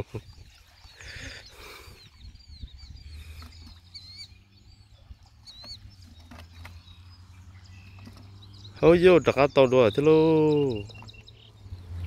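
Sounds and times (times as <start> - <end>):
small bird chirping: 0.1 - 12.0.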